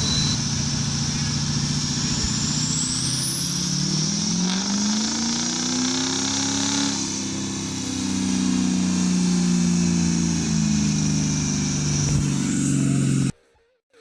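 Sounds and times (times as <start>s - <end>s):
diesel truck engine running hard: 0.0s - 13.3s.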